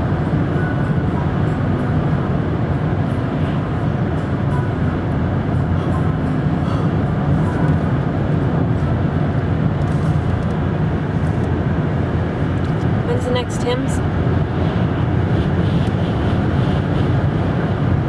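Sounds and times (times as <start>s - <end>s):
engine drone: 0.0s - 18.0s
road and tyre noise: 0.0s - 18.0s.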